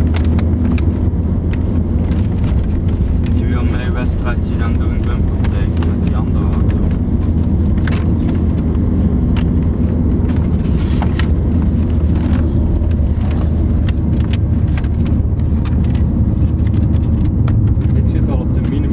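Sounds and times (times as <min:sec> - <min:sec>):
car road and engine drone: 0:00.0 - 0:18.9.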